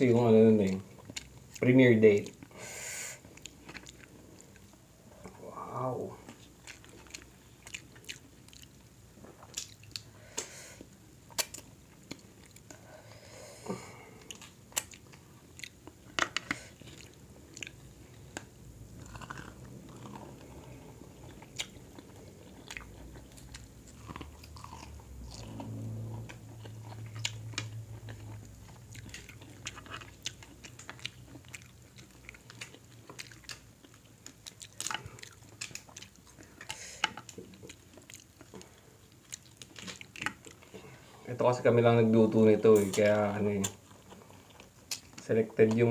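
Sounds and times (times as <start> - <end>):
chewing and biting: 0.7 - 2.5, 3.3 - 5.3, 6.2 - 10.1, 11.3 - 12.8, 14.0 - 40.9, 43.6 - 45.9.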